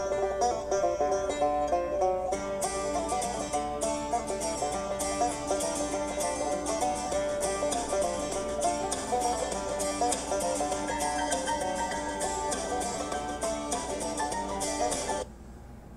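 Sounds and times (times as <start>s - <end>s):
quickly plucked string music: 0.0s - 15.3s.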